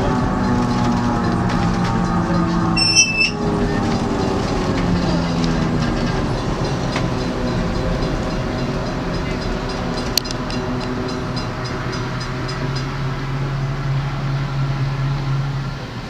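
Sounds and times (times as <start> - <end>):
train rumbling on track: 0.0 - 16.0
wheels clicking on rails: 0.0 - 16.0.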